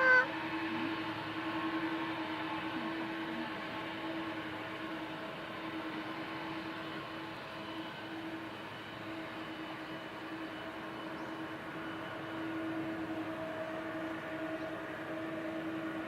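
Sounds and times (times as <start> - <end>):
jet engines rushing and humming: 0.0 - 16.0.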